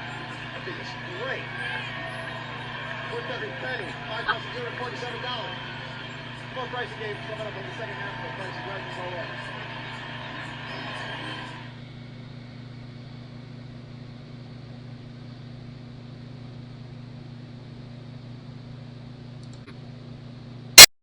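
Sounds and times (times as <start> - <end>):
steady low hum with hiss: 0.0 - 20.8.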